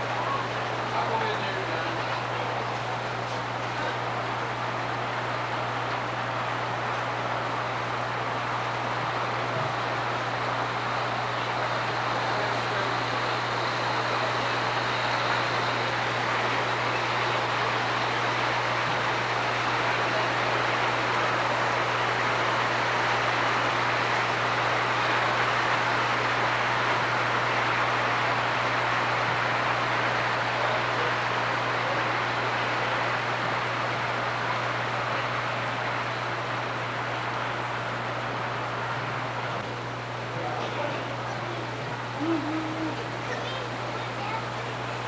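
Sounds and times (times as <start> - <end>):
constant low hum: 0.0 - 45.0
model train wheels rumbling: 0.0 - 45.0.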